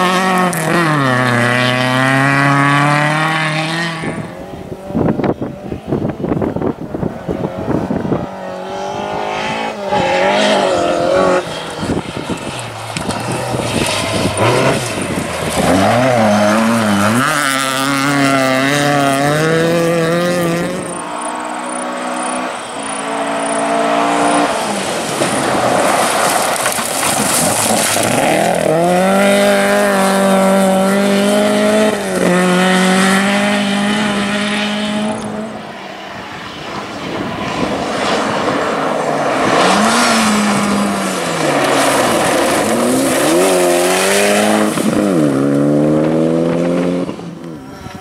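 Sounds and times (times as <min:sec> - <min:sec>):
rally car engine at full throttle: 0:00.0 - 0:48.0.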